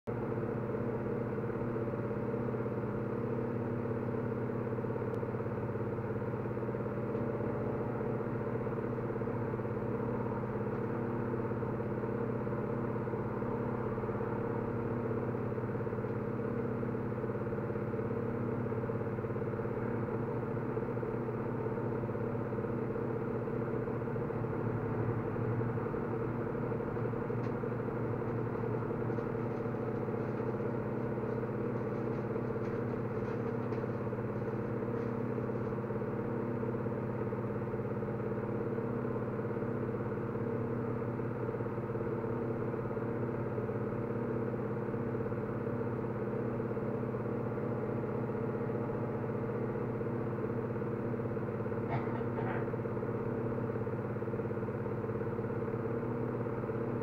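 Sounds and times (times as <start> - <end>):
steady mechanical hum: 0.1 - 57.0.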